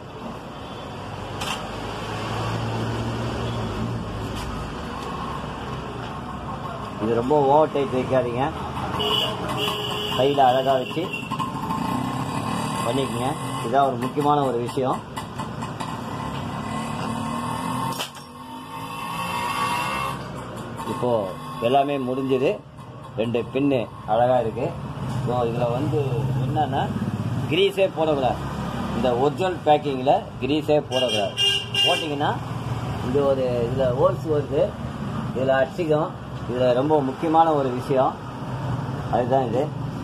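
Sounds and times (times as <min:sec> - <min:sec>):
road traffic going by: 0:00.0 - 0:40.0.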